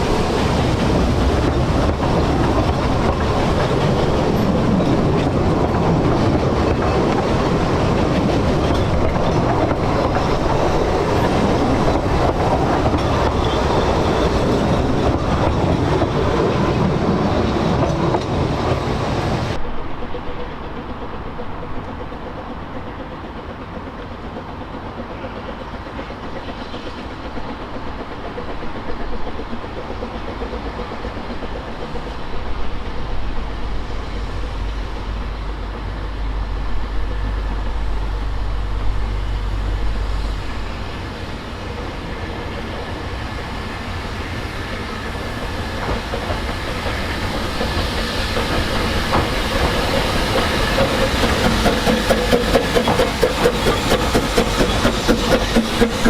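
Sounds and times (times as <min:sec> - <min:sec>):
rail noise: 0:00.0 - 0:56.0
steam train rumble: 0:00.0 - 0:56.0.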